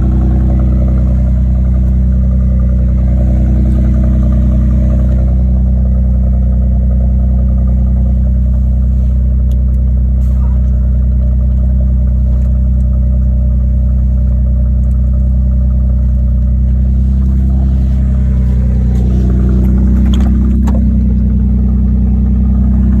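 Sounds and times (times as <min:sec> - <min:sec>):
car engine idling loudly: 0:00.0 - 0:23.0.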